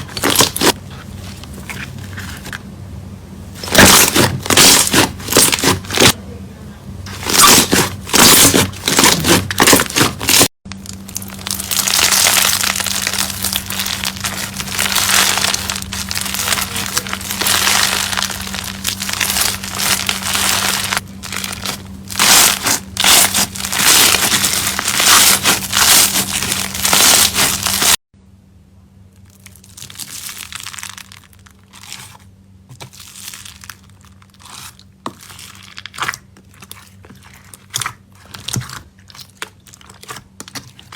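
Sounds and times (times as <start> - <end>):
slime crackling and popping: 0.0 - 0.8, 3.6 - 6.2, 7.1 - 28.0, 29.2 - 40.9.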